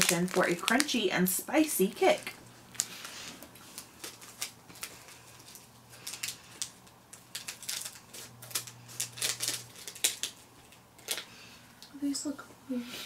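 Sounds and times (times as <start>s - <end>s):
wrapper crinkling: 0.0s - 11.4s.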